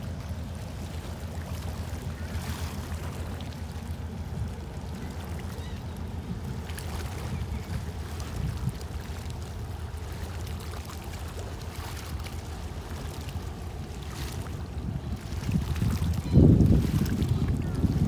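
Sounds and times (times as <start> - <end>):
water lapping and splashing: 0.0 - 18.0.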